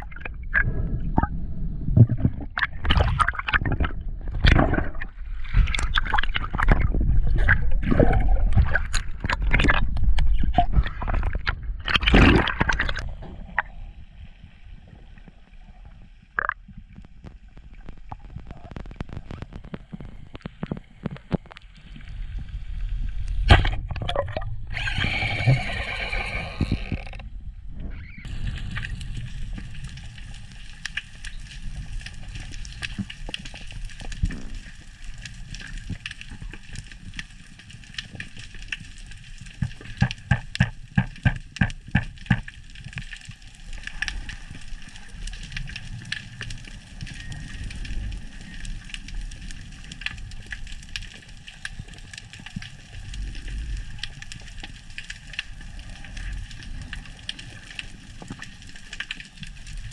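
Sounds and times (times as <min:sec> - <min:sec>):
underwater water rushing: 0:00.0 - 0:59.9.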